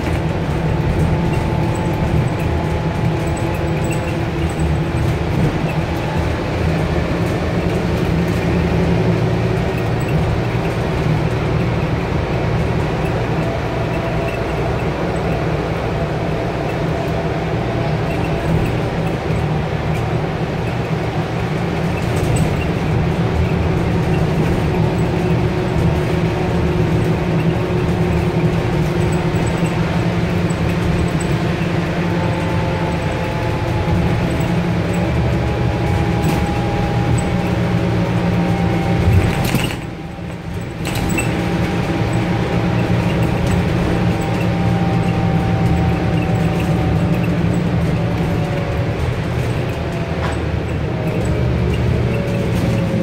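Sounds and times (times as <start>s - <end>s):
diesel engine drone: 0.0s - 53.0s
road rumble: 0.0s - 53.0s.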